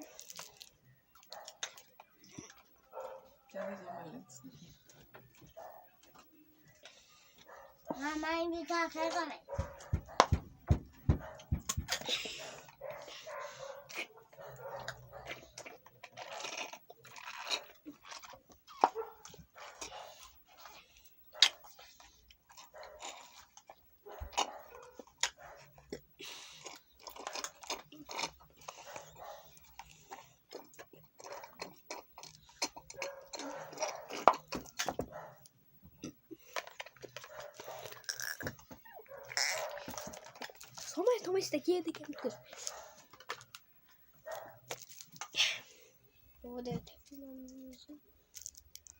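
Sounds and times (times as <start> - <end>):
crunchy food chewing: 0.0 - 8.1, 11.2 - 41.2, 42.0 - 45.9.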